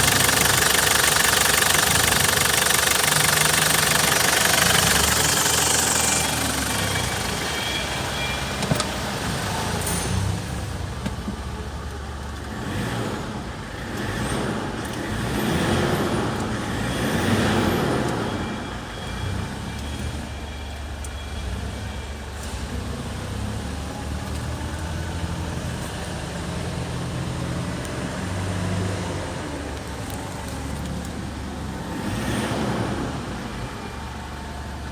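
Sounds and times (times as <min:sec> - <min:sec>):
engine idling: 0:00.0 - 0:34.9.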